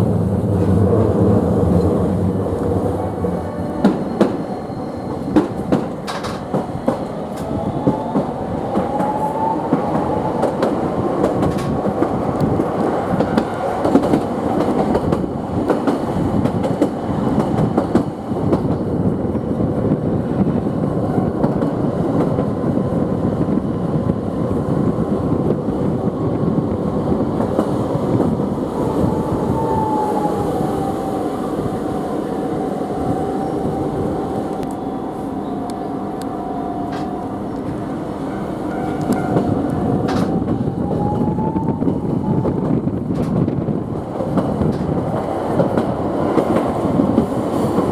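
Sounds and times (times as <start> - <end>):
tram motor whine: 0.0 - 15.7, 23.5 - 47.9
rail clicks: 0.0 - 22.7, 23.4 - 47.9.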